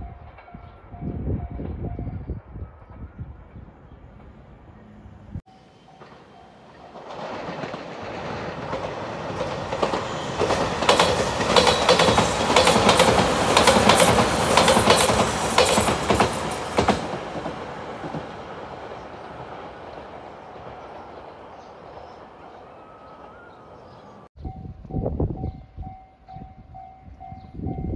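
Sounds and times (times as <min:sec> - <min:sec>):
electric train passing: 0:00.0 - 0:24.3.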